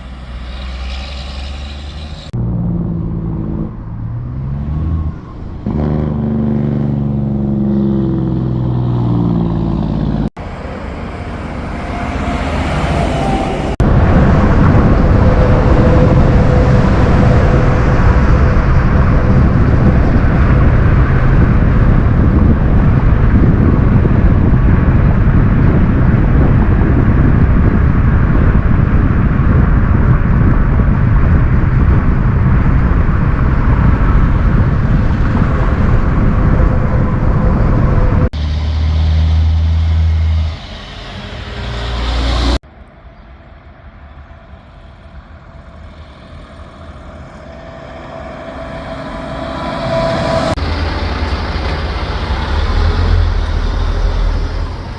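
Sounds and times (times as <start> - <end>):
diesel truck engine rumbling: 0.0 - 42.6, 43.8 - 54.9.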